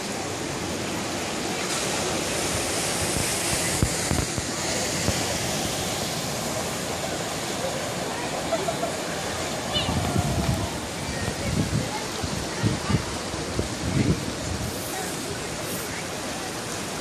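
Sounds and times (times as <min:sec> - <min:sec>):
ocean surf against rocks: 0:00.0 - 0:17.0.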